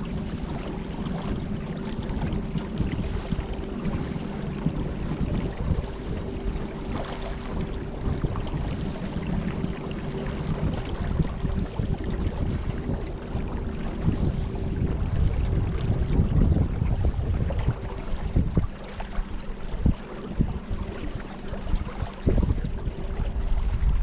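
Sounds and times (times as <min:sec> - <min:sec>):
water rushing: 0:00.0 - 0:24.0
wind buffeting microphone: 0:00.0 - 0:24.0.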